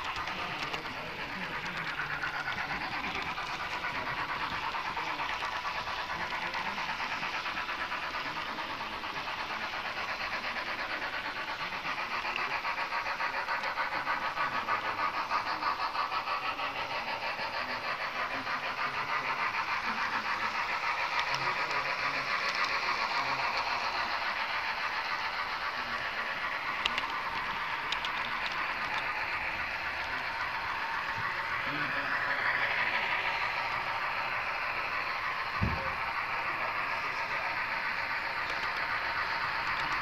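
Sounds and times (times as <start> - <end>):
model train running on track: 0.0 - 40.0.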